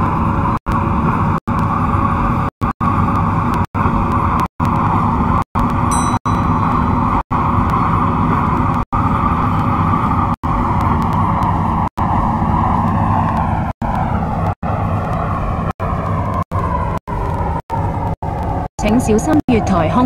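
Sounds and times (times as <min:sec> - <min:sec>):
train wheel and track rumble: 0:00.0 - 0:20.0.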